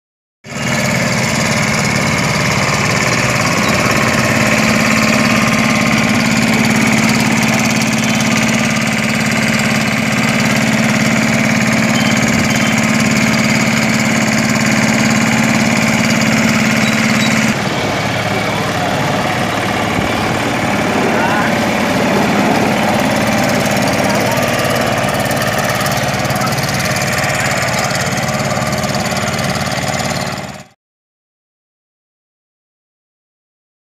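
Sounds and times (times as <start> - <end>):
diesel engine droning: 0.5 - 30.7.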